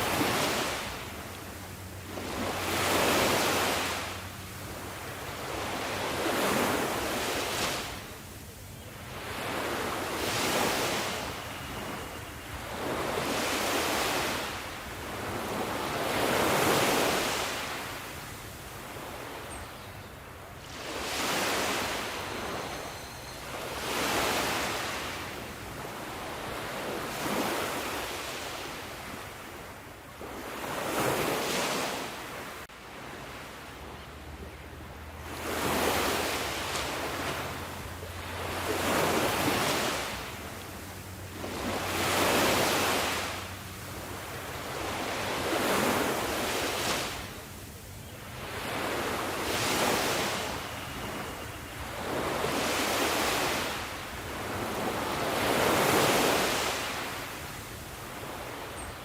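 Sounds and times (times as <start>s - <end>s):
sea waves surging and washing back: 0.0s - 59.0s.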